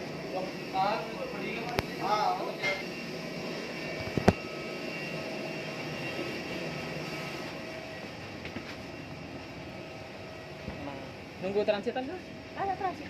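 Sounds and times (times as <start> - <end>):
jet airliner engine whine: 0.0 - 13.0.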